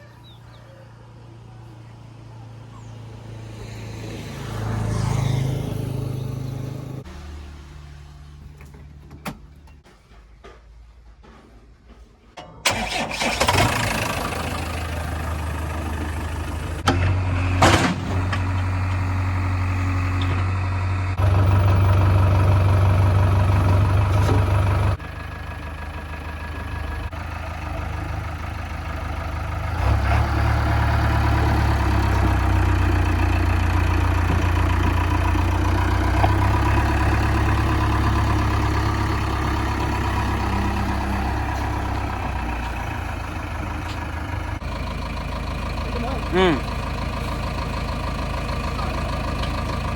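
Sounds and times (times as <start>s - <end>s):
diesel engine revving: 0.0s - 9.8s, 12.6s - 49.9s.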